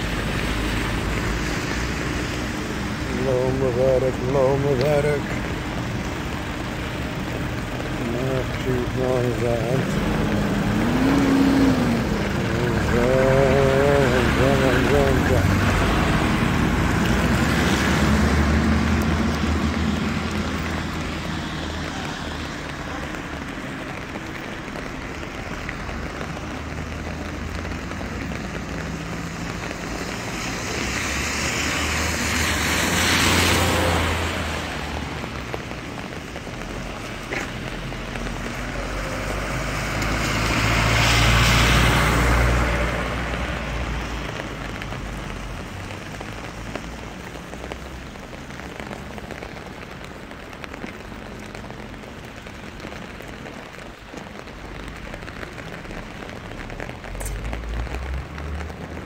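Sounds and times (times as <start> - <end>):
rain falling: 0.0 - 59.0
vehicles passing on wet road: 0.0 - 59.0.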